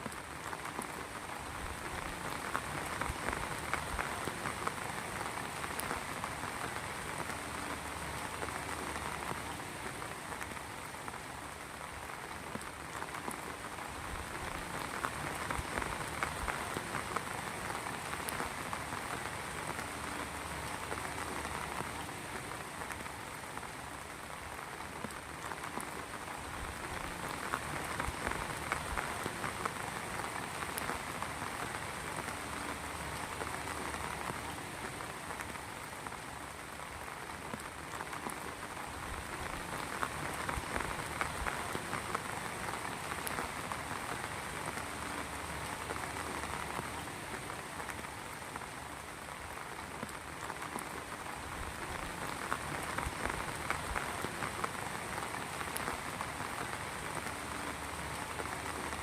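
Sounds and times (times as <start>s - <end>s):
heavy rain patter: 0.0s - 59.0s.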